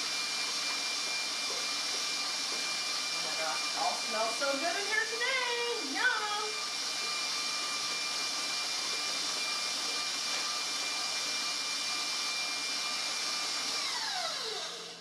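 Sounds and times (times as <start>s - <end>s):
stand mixer motor whine: 0.0s - 15.0s.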